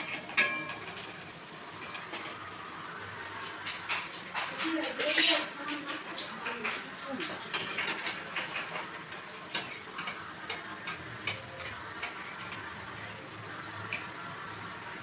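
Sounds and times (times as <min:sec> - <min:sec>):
flatbread sizzling in hot oil: 0:00.0 - 0:15.0.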